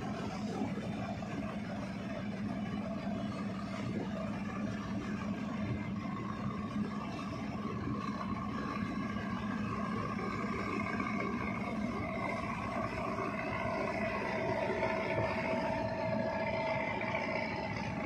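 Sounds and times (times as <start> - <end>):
high steady whine: 0.0 - 18.0
ship engines droning: 0.0 - 18.0
water churning: 0.0 - 18.0.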